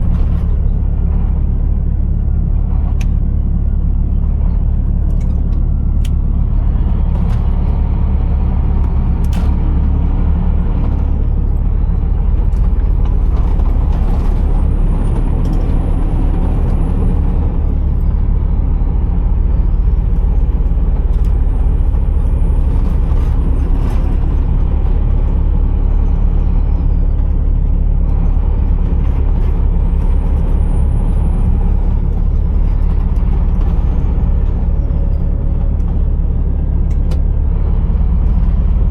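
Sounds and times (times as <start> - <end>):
truck diesel engine rumbling: 0.0 - 38.9.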